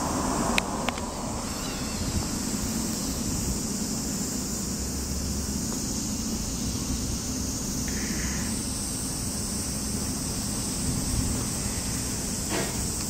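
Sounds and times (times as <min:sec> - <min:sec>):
high-pitched hiss: 0:00.0 - 0:13.0
low street rumble: 0:00.0 - 0:13.0.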